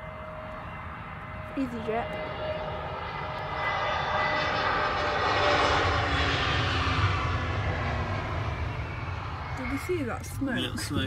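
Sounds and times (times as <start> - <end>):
jet airliner engine roar: 0.0 - 11.0
steady whining tones: 0.0 - 11.0.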